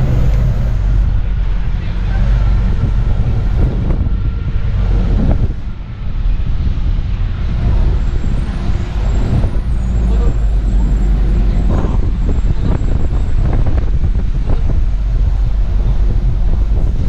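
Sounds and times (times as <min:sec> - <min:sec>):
traffic: 0:00.0 - 0:17.0
trolley engine and road rumble: 0:00.0 - 0:17.0.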